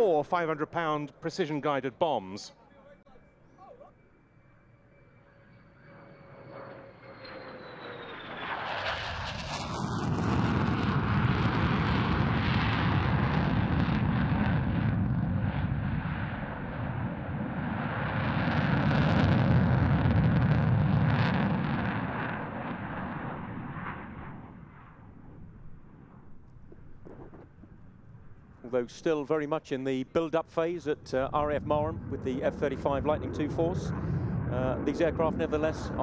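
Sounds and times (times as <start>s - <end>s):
jet engine rumbling: 0.0s - 36.0s.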